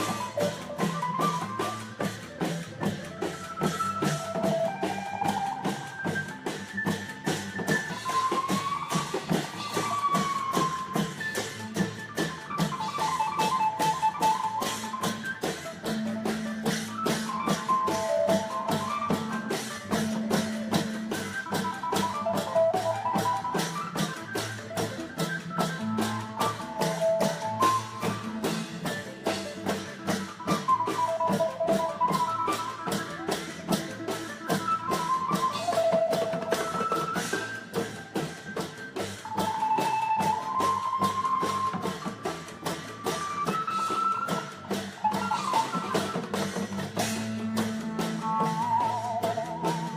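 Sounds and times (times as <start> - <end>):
drums and cymbals beat: 0.0 - 49.9
running melody line: 0.0 - 49.9.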